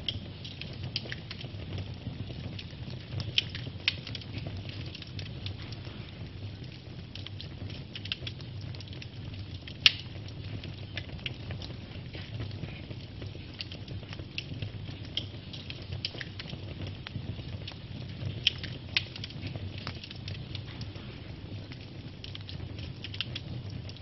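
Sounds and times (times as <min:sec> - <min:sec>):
fire crackling and popping: 0:00.0 - 0:24.0
low fire rumble: 0:00.0 - 0:24.0.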